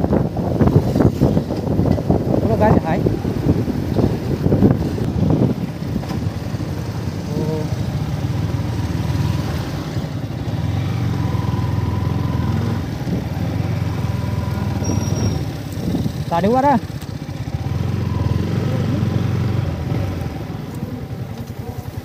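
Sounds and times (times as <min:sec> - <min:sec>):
motorcycle engine running at low speed: 0:00.0 - 0:22.0.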